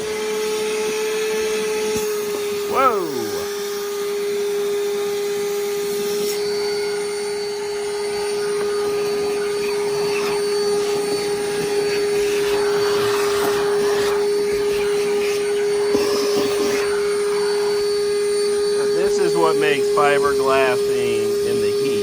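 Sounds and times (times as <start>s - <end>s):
vacuum whining: 0.0s - 22.0s.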